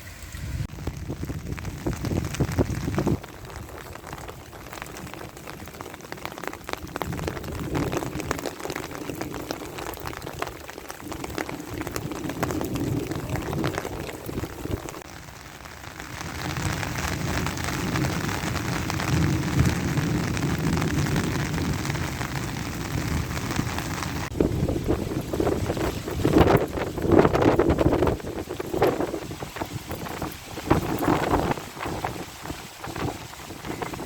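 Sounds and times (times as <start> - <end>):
heavy rain pattering: 0.0 - 34.0.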